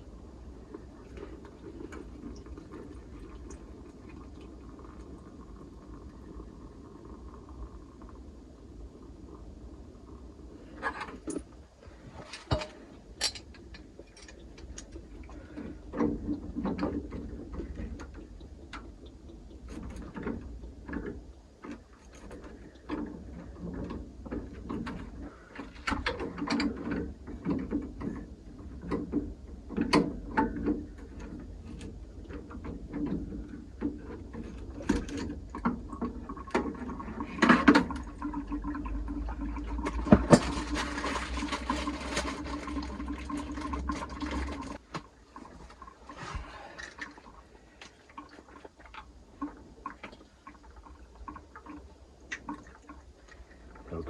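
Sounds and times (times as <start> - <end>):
water draining through hose: 0.0 - 54.0.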